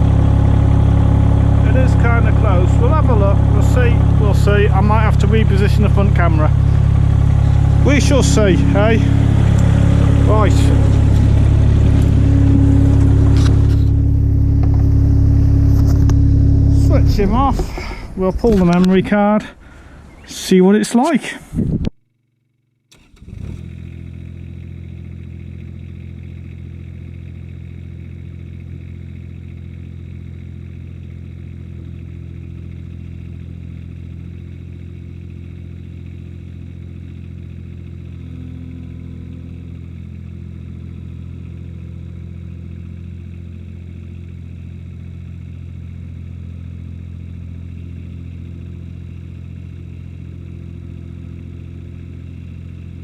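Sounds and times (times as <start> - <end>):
mower engine running: 0.0 - 20.0, 22.9 - 53.0.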